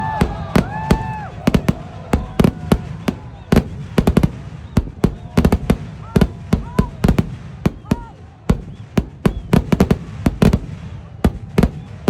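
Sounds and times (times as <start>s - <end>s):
firecracker bangs: 0.0s - 12.0s.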